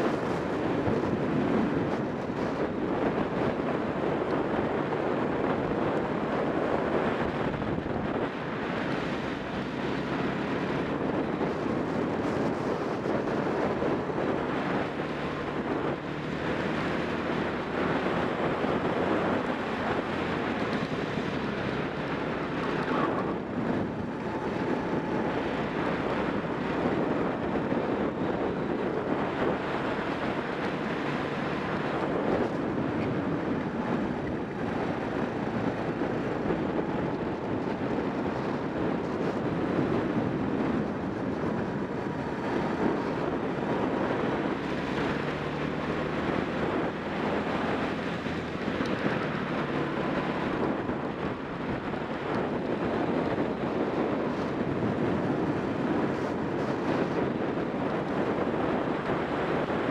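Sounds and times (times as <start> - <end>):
kart engine running hard: 0.0 - 59.9
wind noise on microphone: 0.0 - 59.9.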